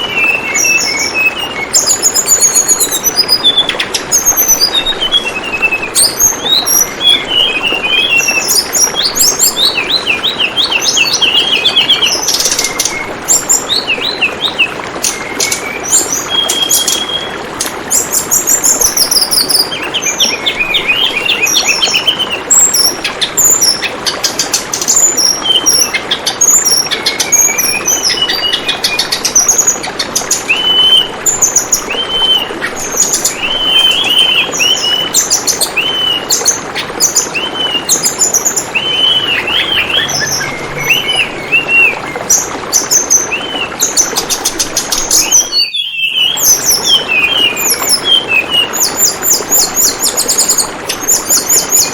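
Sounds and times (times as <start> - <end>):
flowing water babbling: 0.0 - 51.9
songbird chirping and trilling: 0.0 - 51.9.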